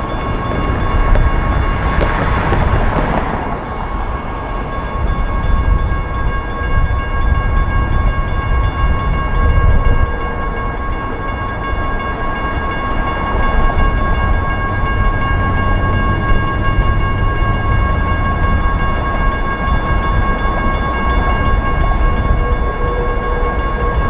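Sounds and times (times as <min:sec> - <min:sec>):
railroad crossing bells ringing: 0:00.0 - 0:24.0.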